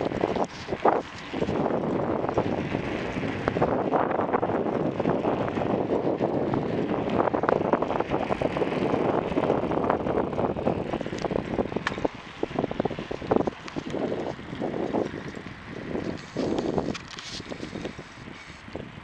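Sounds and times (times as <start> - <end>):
bike rattling and knocking: 0.0 - 19.0
wind rushing over microphone: 0.0 - 19.0.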